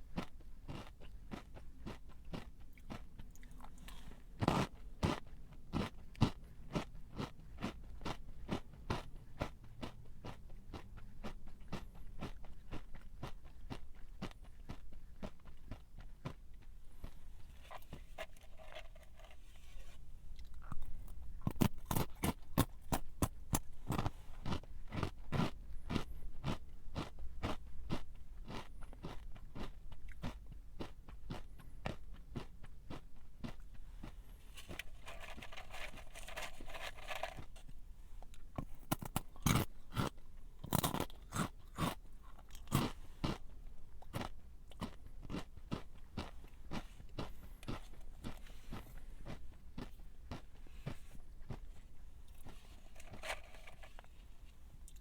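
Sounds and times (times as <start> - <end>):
person chewing crunchy snack: 0.0 - 55.0.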